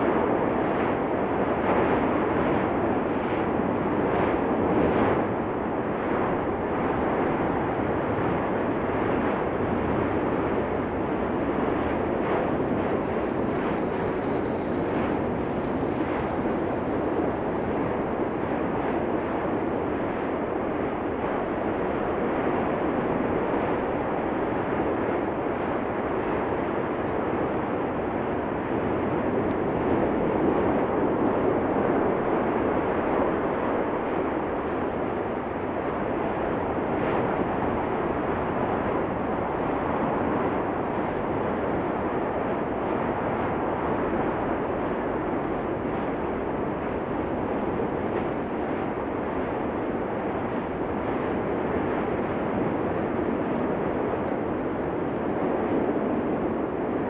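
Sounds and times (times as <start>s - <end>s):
volcanic eruption rushing: 0.0s - 57.0s.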